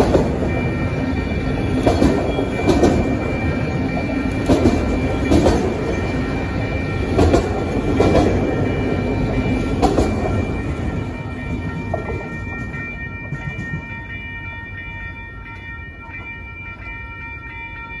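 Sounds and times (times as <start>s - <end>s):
crossing bell ringing: 0.0s - 18.0s
train wheels clacking on rails: 0.0s - 18.0s.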